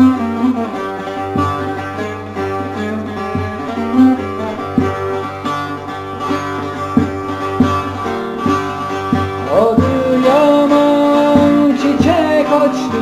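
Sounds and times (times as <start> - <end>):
plucked string instrument melody: 0.0 - 13.0
regular beat: 0.0 - 13.0.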